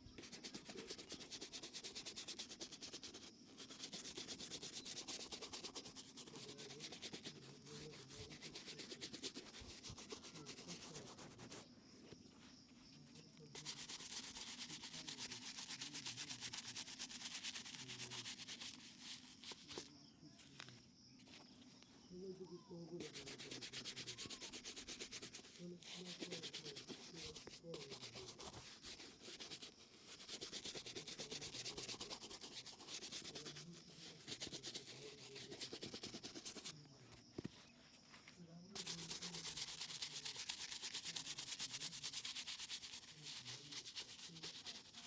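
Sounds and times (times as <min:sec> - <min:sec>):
brush rubbing leather shoe: 0:00.0 - 0:20.6, 0:22.8 - 0:45.0.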